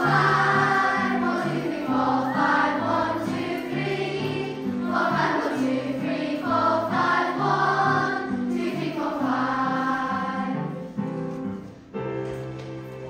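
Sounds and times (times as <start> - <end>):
children singing together: 0.0 - 10.9
musical accompaniment: 0.0 - 13.0.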